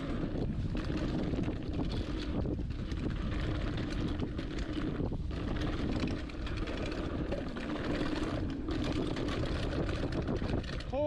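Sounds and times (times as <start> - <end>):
bike clicking and rattling: 0.0 - 11.0
bike tyres rolling over dirt: 0.0 - 11.0
wind buffeting microphone: 0.0 - 11.0.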